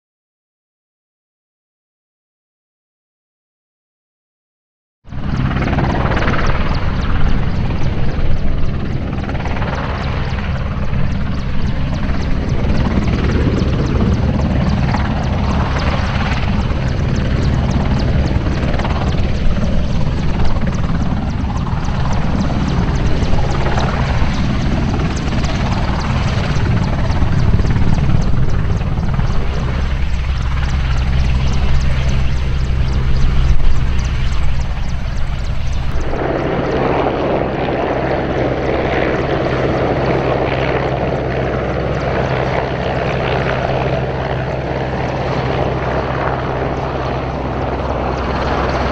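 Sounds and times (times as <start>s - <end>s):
helicopter hovering: 5.1s - 48.9s.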